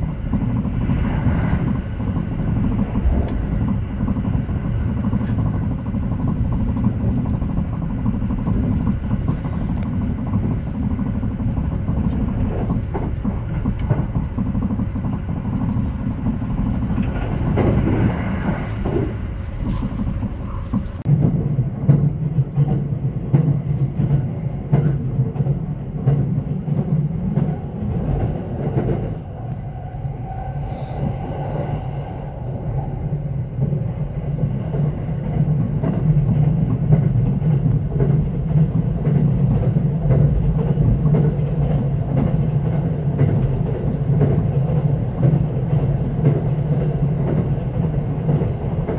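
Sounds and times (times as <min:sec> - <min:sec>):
train rumbling: 0:00.0 - 0:48.9
wheels clicking on rails: 0:00.0 - 0:48.9.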